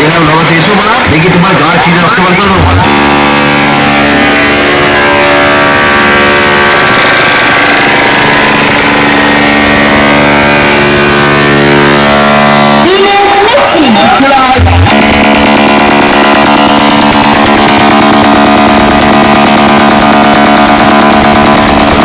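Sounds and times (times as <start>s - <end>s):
loud buzzing tone through speakers: 0.0s - 22.0s.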